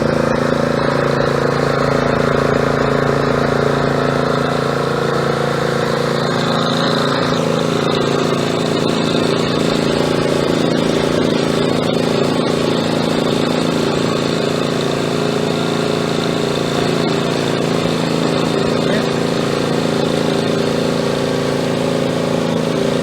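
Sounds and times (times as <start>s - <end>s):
petrol generator running: 0.0s - 23.0s.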